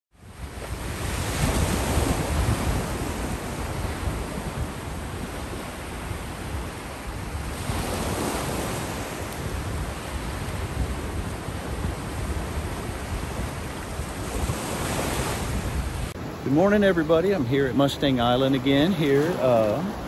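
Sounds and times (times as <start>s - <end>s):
wind rumbling on microphone: 0.1s - 20.0s
waves washing onto a beach: 0.2s - 20.0s.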